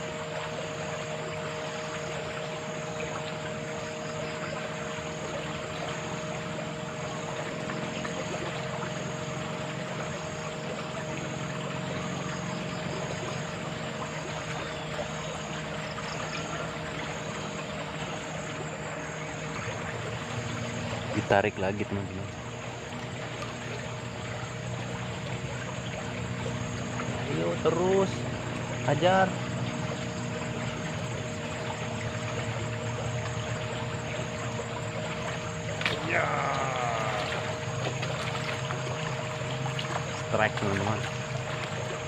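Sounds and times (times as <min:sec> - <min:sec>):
constant hum: 0:00.0 - 0:42.0
flowing water rushing: 0:00.0 - 0:42.0.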